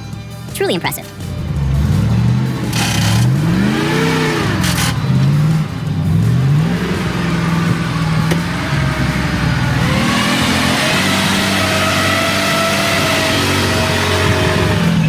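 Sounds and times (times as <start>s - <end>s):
truck engine revving: 1.1s - 15.0s.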